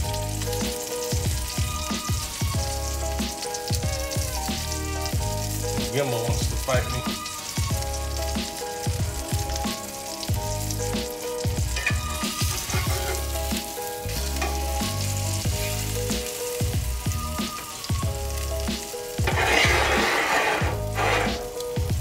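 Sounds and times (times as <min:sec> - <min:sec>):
background music with steady beat: 0:00.0 - 0:22.0
chicken cutlet sizzling in a skillet: 0:00.0 - 0:22.0.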